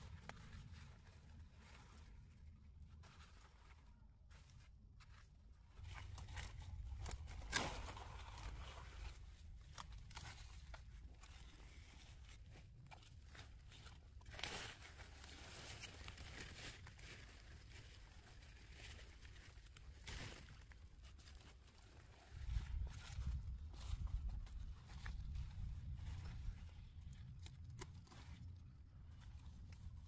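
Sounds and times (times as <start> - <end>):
rustling and handling noises: 0.0 - 30.0.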